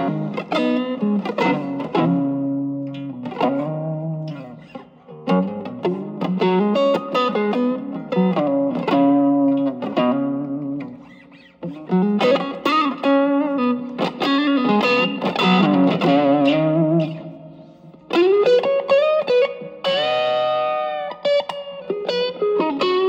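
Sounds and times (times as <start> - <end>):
overdriven electric guitar: 0.0 - 23.0.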